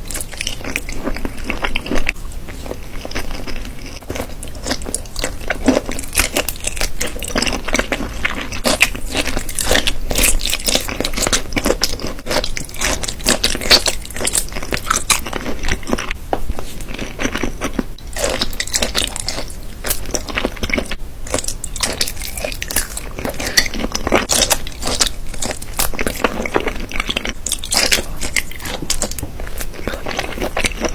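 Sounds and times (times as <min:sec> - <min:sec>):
wet chewing and biting: 0:00.0 - 0:30.9.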